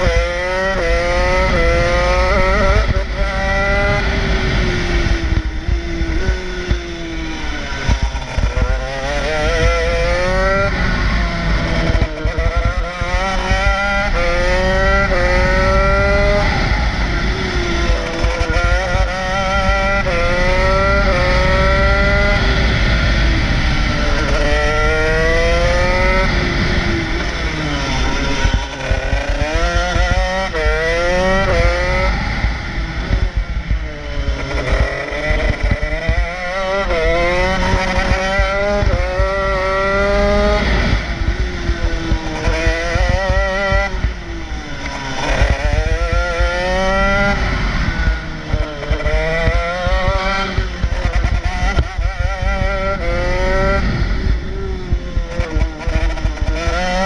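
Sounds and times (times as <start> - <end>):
two-stroke kart engine revving: 0.0 - 57.0
wind rushing over microphone: 0.0 - 57.0.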